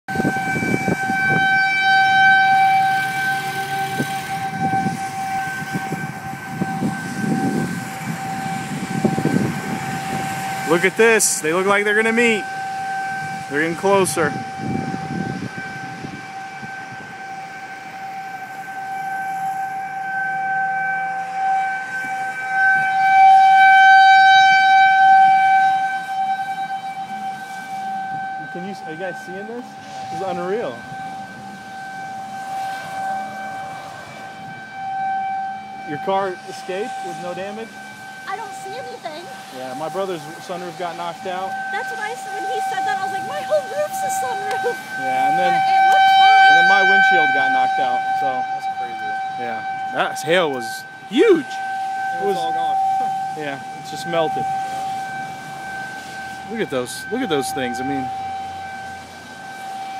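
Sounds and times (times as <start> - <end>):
warning siren steady tone: 0.0 - 59.9
cars passing on wet road: 0.1 - 59.9.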